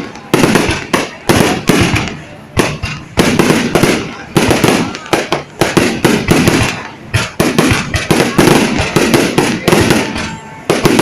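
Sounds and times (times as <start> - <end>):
fireworks shells bursting: 0.0 - 11.0.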